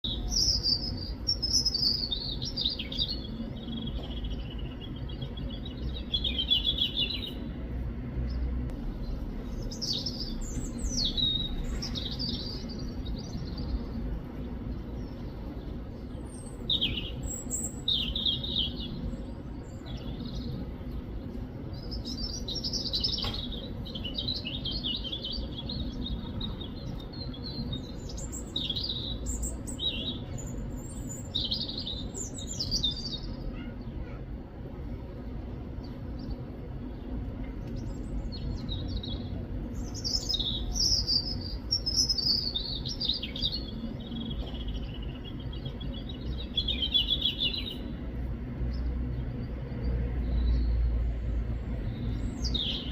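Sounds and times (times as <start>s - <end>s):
low background rumble: 0.0s - 52.9s
robin singing: 0.0s - 52.9s.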